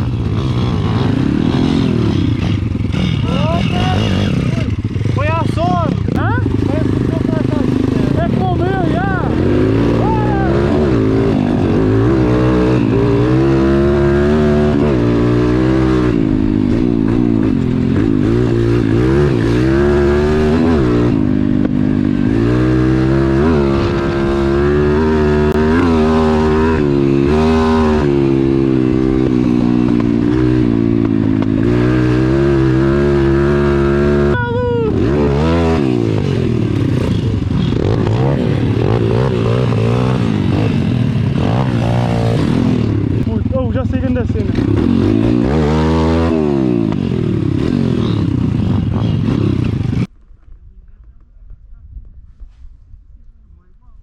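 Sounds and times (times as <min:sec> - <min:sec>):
pit bike engine revving: 0:00.0 - 0:50.1.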